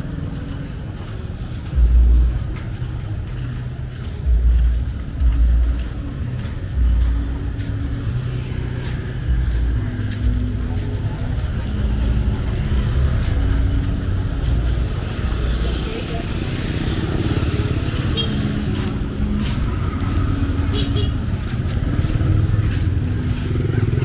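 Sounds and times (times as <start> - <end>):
vehicle engines running: 0.0 - 24.0.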